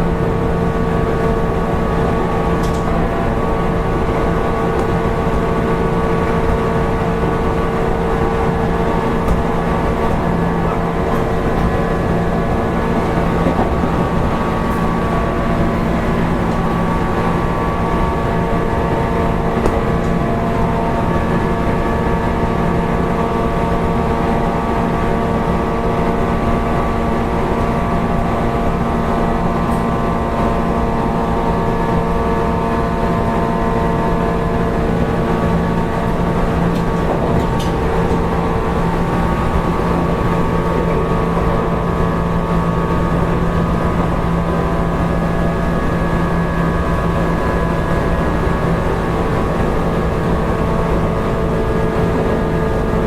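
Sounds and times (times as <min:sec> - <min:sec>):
train motor and gear hum: 0:00.0 - 0:53.0
wheels rumbling on rails: 0:00.0 - 0:53.0.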